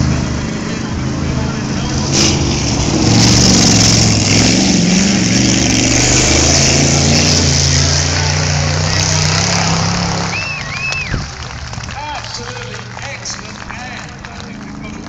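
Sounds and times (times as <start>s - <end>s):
race car engines drone: 0.0s - 15.0s.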